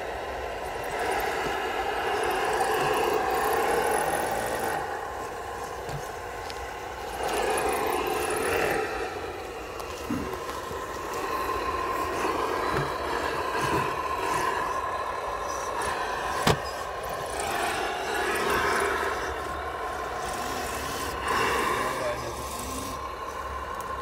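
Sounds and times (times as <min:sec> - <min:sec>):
electric motor whine: 0:00.0 - 0:24.0.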